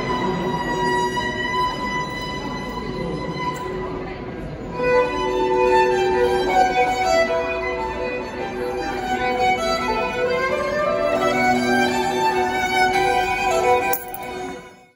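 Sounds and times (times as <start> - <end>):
electric violin melody: 0.0 - 14.9.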